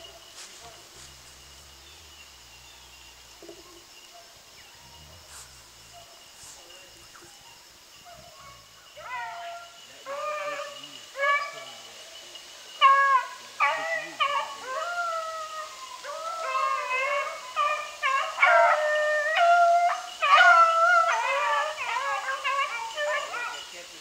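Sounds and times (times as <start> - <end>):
hounds baying and howling: 0.0 - 24.0.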